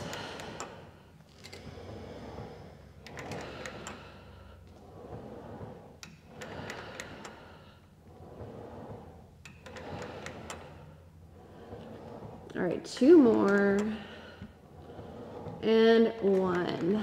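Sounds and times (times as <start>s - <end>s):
exercise carriage sliding on rails: 0.0s - 17.0s.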